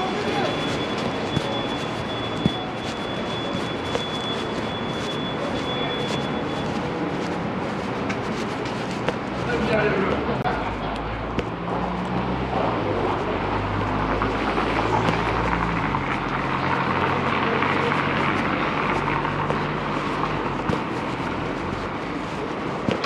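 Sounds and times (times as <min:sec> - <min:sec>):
tyre noise: 0:00.0 - 0:23.0
vehicle engines running: 0:00.0 - 0:23.0.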